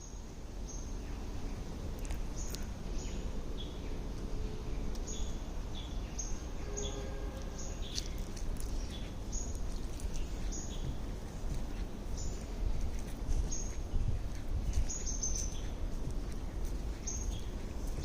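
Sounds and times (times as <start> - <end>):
birds chirping: 0.0 - 18.0
low rumble of background noise: 0.0 - 18.0.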